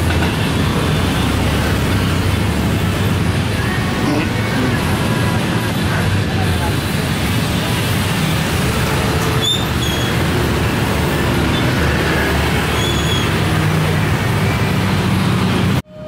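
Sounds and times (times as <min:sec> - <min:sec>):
motorcycles and scooters passing: 0:00.0 - 0:15.8
road noise: 0:00.0 - 0:16.0.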